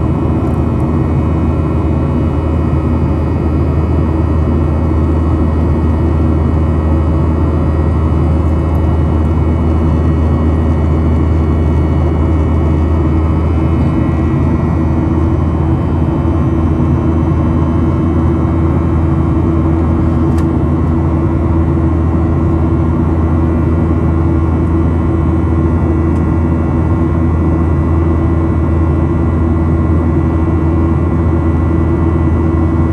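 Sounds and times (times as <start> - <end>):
jet engines droning: 0.0 - 32.9.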